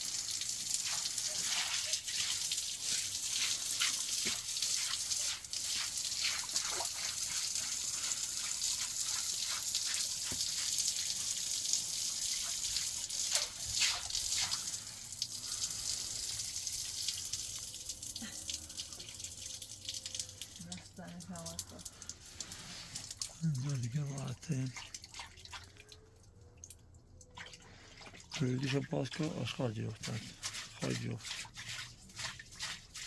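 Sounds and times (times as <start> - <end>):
water drips and plops: 0.0 - 33.0
water running and splashing: 0.0 - 33.0.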